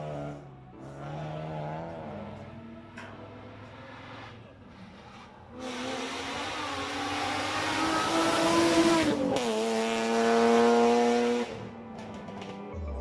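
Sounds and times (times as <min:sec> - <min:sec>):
race car accelerating past: 0:00.0 - 0:02.7, 0:03.3 - 0:11.7.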